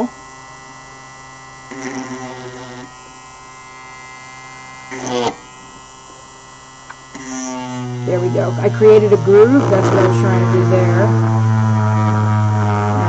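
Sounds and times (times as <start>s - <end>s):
rotary tool drill whining: 0.0s - 13.0s.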